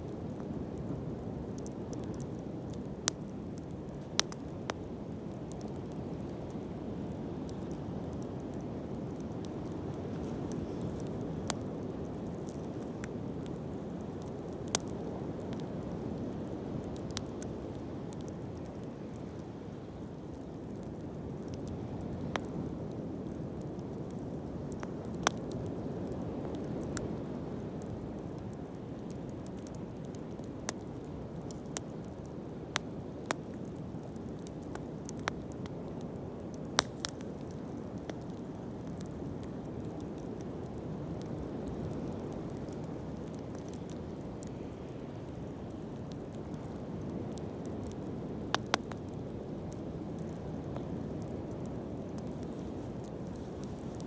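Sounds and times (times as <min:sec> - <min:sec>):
fire crackling and popping: 0:00.0 - 0:54.0
wood fire burning: 0:00.0 - 0:54.0.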